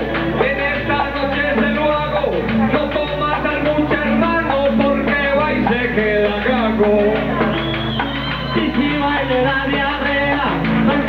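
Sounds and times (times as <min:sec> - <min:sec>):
guitar accompaniment: 0:00.0 - 0:11.0
man singing: 0:00.0 - 0:11.0.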